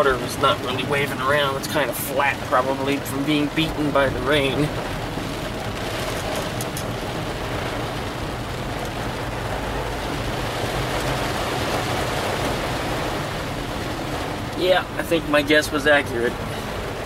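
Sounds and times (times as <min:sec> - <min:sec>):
car engine and road noise: 0:00.0 - 0:17.0
rain on a car roof: 0:00.0 - 0:17.0.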